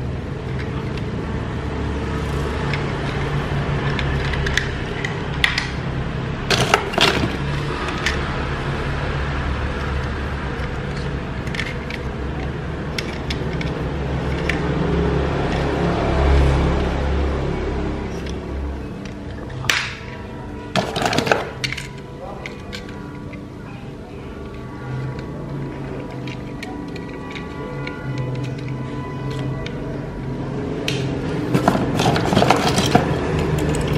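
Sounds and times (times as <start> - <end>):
toy vehicles clicking together: 0.2 - 1.2, 2.1 - 5.8, 6.5 - 8.6, 9.7 - 17.0, 18.1 - 23.5, 24.2 - 30.0, 30.8 - 33.9.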